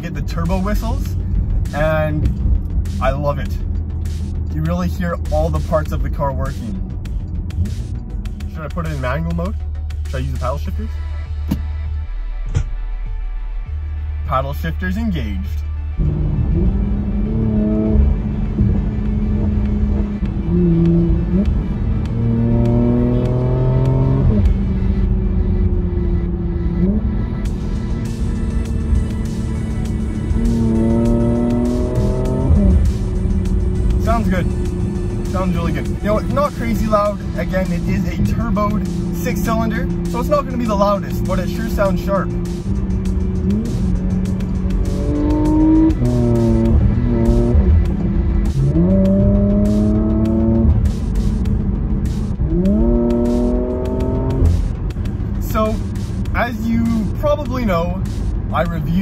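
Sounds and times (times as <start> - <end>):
car engine revving: 0.0 - 59.0
music playing: 0.0 - 59.0.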